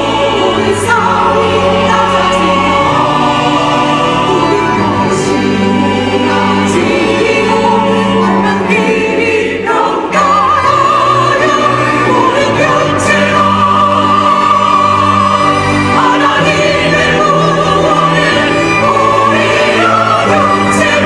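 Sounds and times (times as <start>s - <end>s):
church choir singing: 0.0s - 21.0s.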